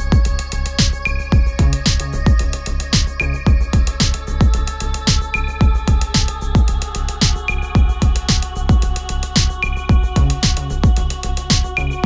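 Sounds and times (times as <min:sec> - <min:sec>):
electronic music: 0:00.0 - 0:12.0
kick drum: 0:00.0 - 0:12.0.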